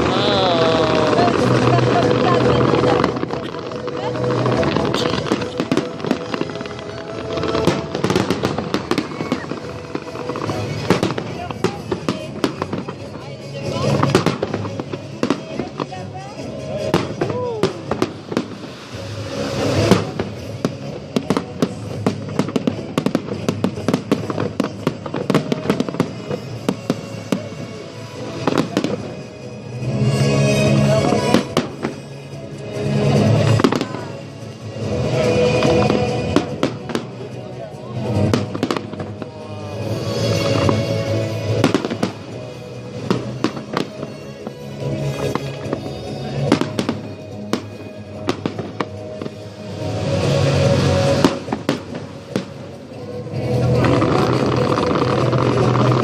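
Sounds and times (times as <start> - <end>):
fireworks bangs and crackles: 0.0 - 56.0
music playing: 0.0 - 56.0.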